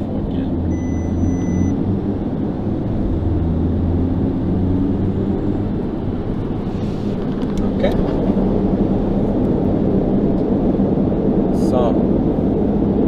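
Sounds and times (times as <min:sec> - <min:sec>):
car engine low drone: 0:00.0 - 0:13.0.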